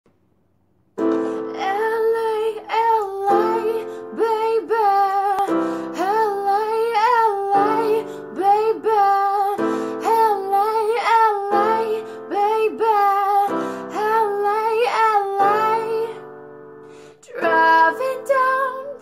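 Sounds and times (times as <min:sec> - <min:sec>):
electronic keyboard chords: 0:01.0 - 0:19.0
woman singing: 0:01.2 - 0:16.4, 0:17.2 - 0:19.0.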